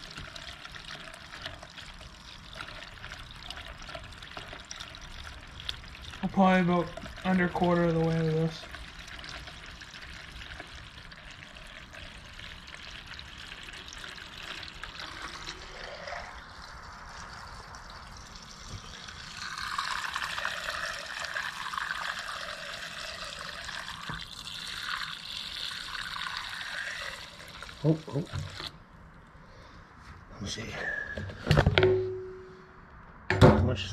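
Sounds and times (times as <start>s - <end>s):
fuel pouring into a tank: 0.0s - 28.8s.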